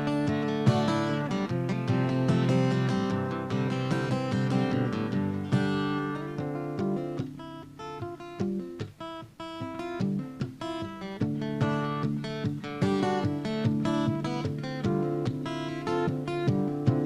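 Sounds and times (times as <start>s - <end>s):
acoustic guitar strumming and plucking: 0.0s - 17.0s.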